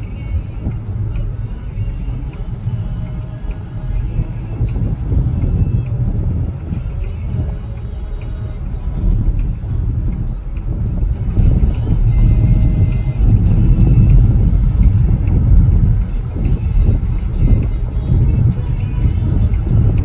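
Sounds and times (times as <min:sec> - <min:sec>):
road vehicle rumbling: 0:00.0 - 0:20.0.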